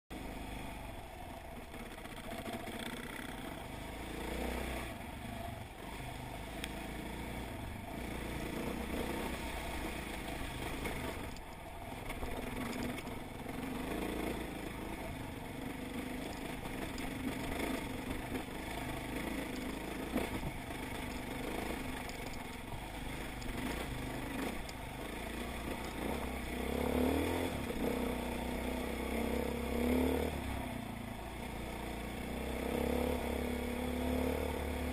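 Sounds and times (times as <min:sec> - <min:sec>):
dirt bike engine revving: 0:01.6 - 0:34.9.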